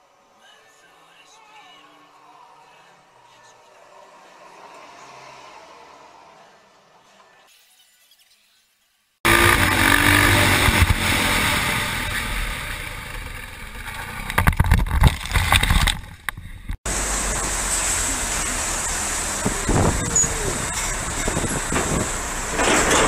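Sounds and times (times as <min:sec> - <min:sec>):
hum of running traffic: 0:00.0 - 0:07.5, 0:09.2 - 0:23.0
vehicle engine and road noise: 0:00.0 - 0:07.7, 0:09.2 - 0:23.0.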